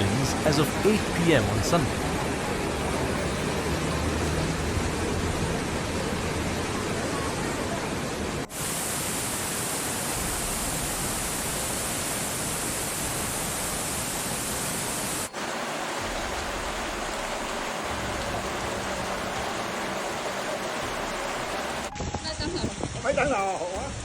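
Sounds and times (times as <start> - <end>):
rushing floodwater roar: 0.0 - 24.0.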